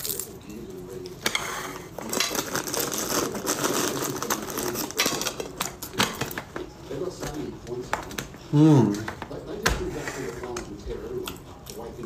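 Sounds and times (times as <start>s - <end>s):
objects clattering on kitchen counter: 1.2s - 11.0s.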